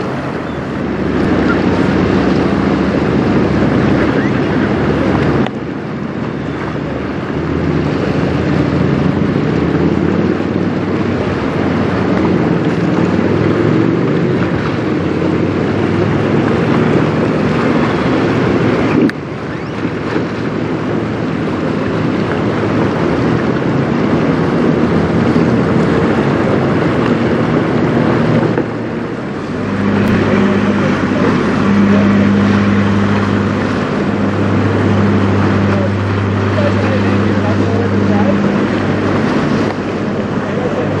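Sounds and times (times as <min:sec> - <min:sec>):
choppy river water: 0:00.0 - 0:41.0
low engine hum: 0:00.0 - 0:41.0
wind buffeting microphone: 0:00.0 - 0:41.0.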